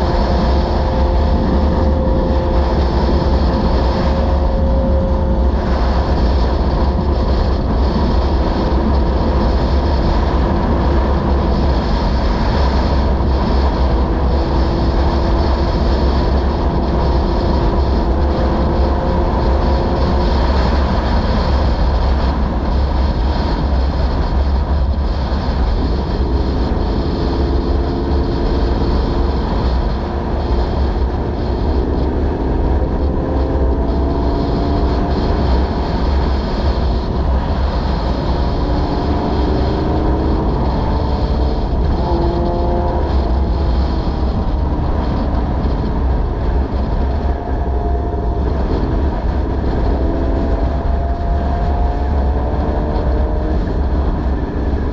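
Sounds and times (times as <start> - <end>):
motorcycle engine revving: 0.0 - 54.9
wind rush on camera: 0.0 - 54.9.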